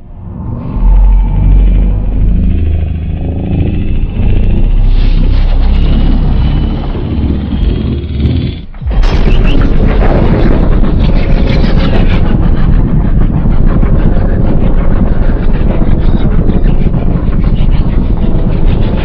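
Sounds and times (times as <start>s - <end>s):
low crackling monster rumble: 0.0s - 19.0s.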